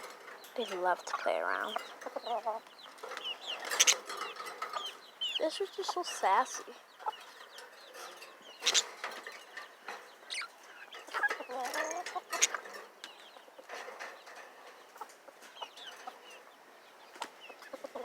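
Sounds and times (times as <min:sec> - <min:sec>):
budgerigars chirping: 0:00.0 - 0:18.0.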